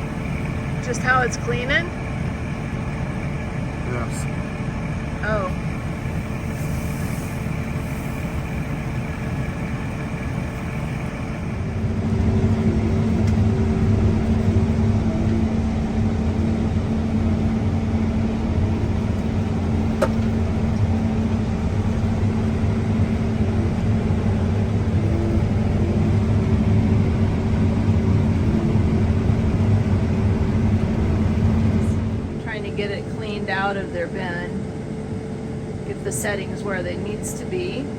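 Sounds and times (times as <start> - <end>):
combine harvester drone: 0.0 - 37.9.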